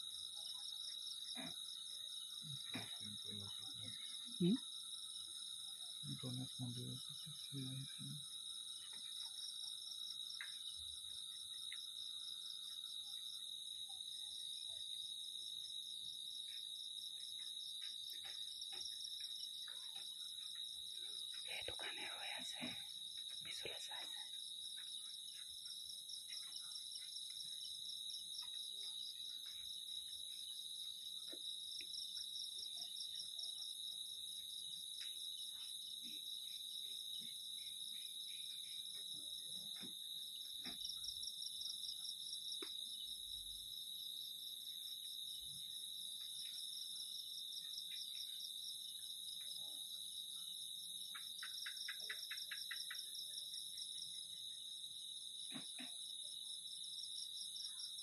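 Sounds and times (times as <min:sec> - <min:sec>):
crickets and insects trilling: 0:00.0 - 0:49.6
rapid lower insect trill: 0:00.0 - 0:58.0.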